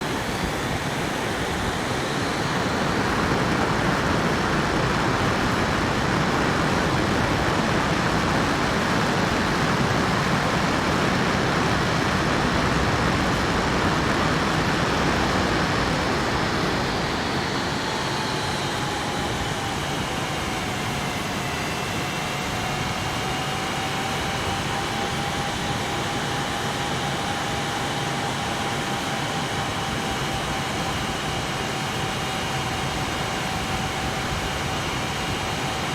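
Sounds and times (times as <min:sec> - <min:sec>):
jet airliner engines roaring: 0:00.0 - 0:35.9
jet engine whine: 0:00.0 - 0:35.9.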